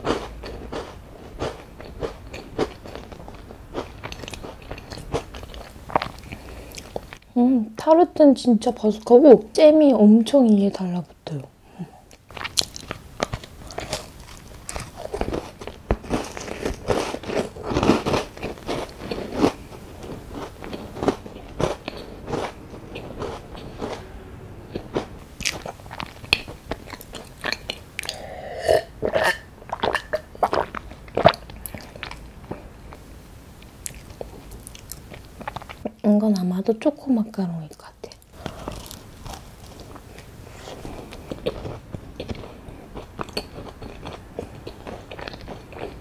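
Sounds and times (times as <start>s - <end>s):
biting and crunchy chewing: 0.0s - 7.3s, 12.1s - 28.3s, 29.1s - 33.0s, 33.6s - 35.9s, 38.1s - 46.0s.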